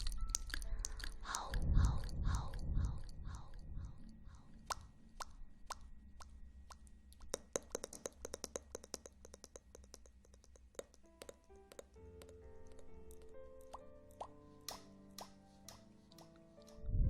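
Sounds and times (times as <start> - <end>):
soft ambient music: 0.0 - 9.0, 10.8 - 17.0
clicks and pops: 0.0 - 16.8.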